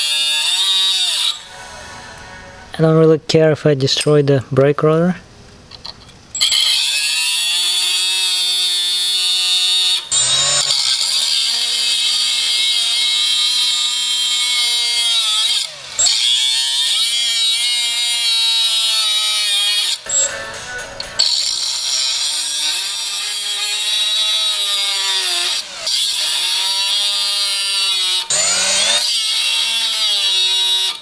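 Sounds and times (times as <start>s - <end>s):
electric drill whining: 0.0s - 2.2s, 6.4s - 31.0s.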